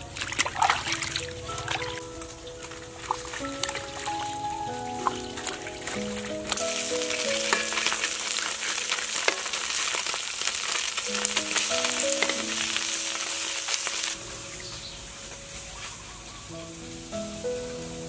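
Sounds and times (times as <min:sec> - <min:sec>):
background music: 0:00.0 - 0:10.3, 0:11.0 - 0:18.0
fish sizzling in hot oil: 0:00.0 - 0:18.0.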